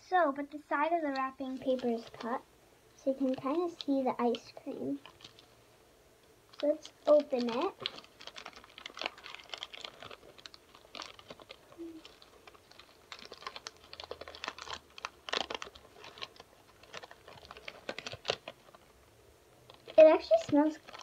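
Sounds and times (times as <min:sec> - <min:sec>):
food pouch crinkling: 0:01.1 - 0:02.3, 0:03.2 - 0:05.5, 0:06.5 - 0:18.9, 0:19.6 - 0:21.0.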